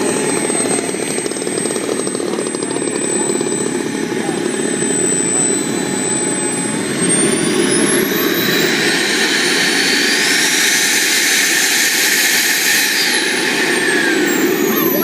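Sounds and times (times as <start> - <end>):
jet turbine engine whining: 0.0 - 15.0.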